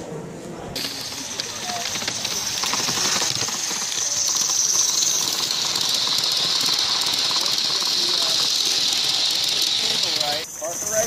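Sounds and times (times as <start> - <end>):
steam hissing: 0.8 - 11.0
train cars rolling on track: 0.8 - 11.0.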